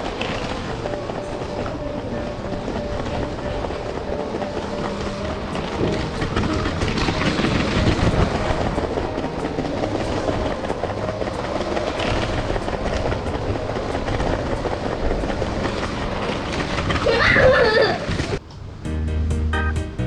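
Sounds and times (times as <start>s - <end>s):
wheels clicking over track joints: 0.0s - 18.6s.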